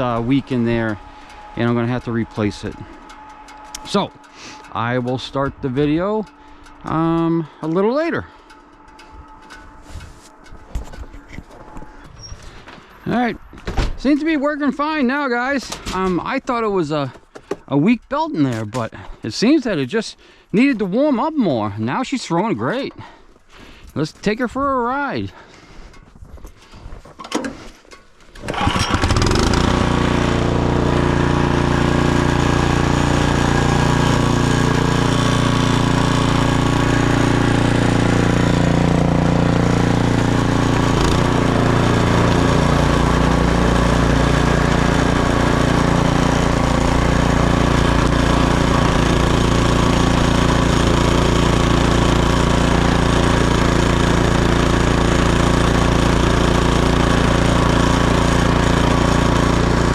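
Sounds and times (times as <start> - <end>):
snowblower engine running: 0.0 - 17.6, 27.4 - 59.9.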